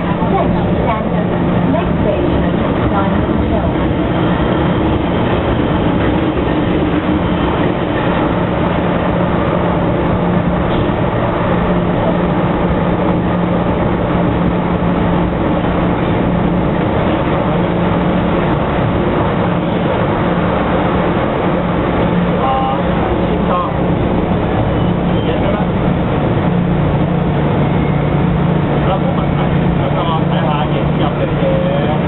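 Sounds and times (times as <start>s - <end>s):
train motor hum: 0.0s - 32.0s
wheels rumbling on track: 0.0s - 32.0s.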